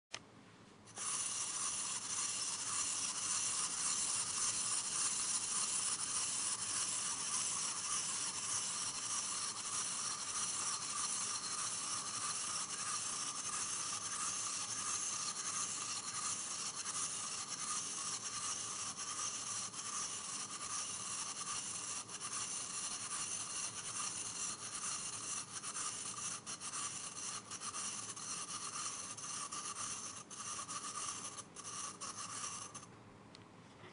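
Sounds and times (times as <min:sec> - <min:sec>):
clockwork toy motor whirring: 0:00.9 - 0:32.9.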